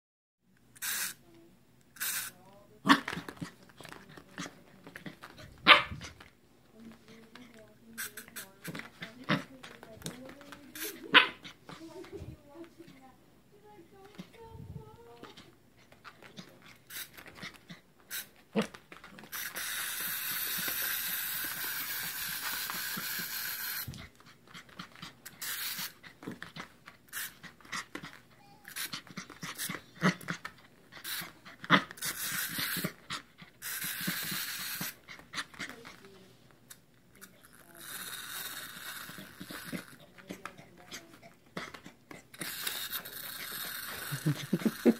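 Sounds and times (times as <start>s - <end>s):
puppy panting and huffing: 3.0s - 13.1s, 13.9s - 36.2s, 37.7s - 44.9s.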